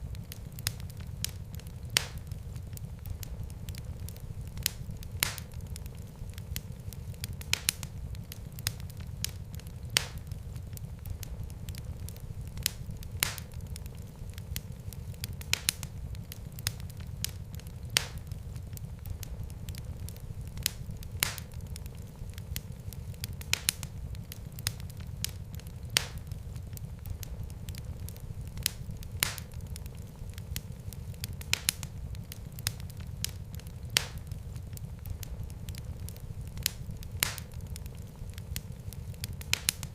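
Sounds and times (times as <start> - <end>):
fire crackling and popping: 0.0 - 39.9
low rumble of burning: 0.0 - 39.9.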